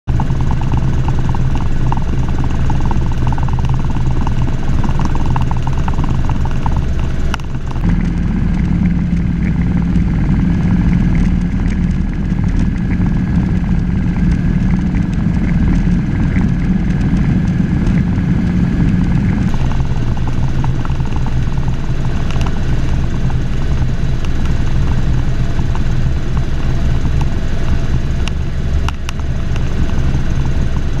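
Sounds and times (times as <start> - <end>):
helicopter drone from cabin: 0.1 - 31.0.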